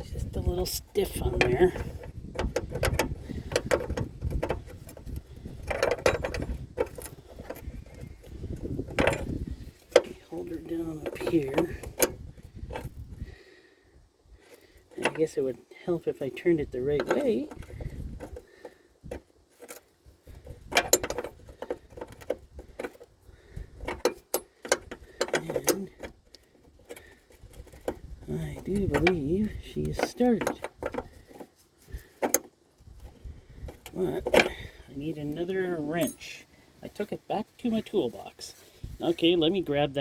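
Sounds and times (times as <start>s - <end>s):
metallic clicks and scrapes of tools: 0.0s - 13.4s, 16.2s - 37.0s.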